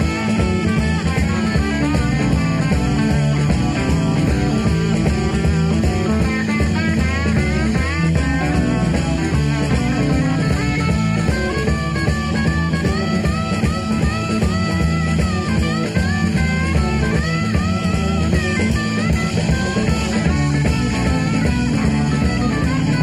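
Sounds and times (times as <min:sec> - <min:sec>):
bass and drums: 0:00.0 - 0:23.0
electric guitar lead with bent notes: 0:00.0 - 0:23.0.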